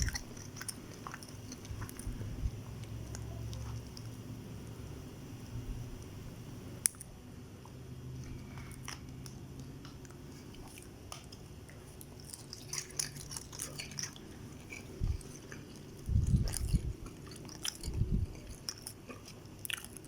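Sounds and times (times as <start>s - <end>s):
close chewing of food: 0.0s - 5.1s, 7.6s - 20.0s
steady low hum: 0.0s - 20.0s.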